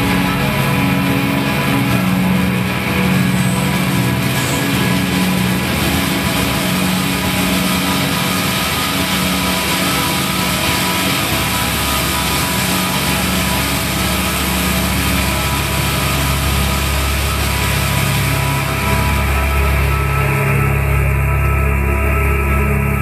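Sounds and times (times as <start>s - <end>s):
dark electronic drone: 0.0s - 23.0s.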